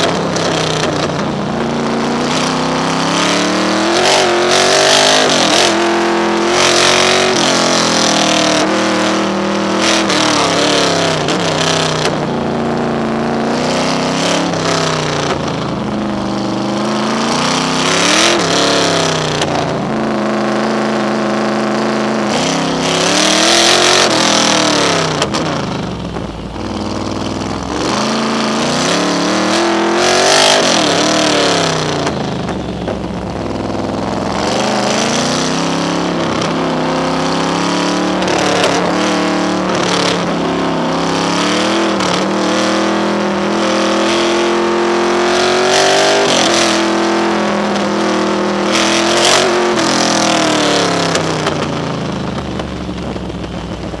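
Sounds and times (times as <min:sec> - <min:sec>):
sports car engine accelerating: 0:00.0 - 0:54.0.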